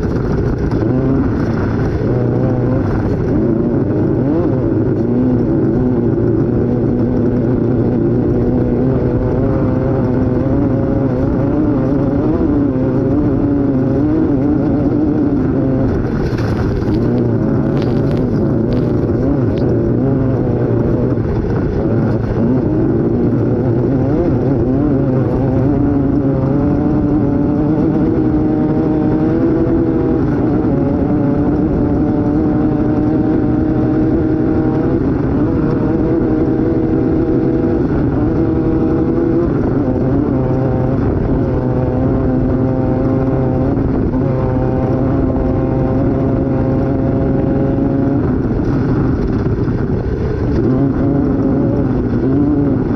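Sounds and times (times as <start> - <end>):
constant background noise: 0.0 - 52.9
race vehicle engine running hard: 0.0 - 52.9.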